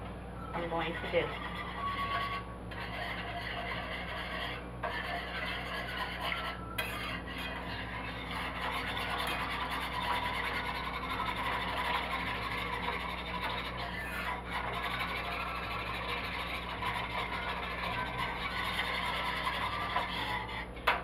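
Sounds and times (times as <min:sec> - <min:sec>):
whisk stirring in a frying pan: 0:00.8 - 0:21.0.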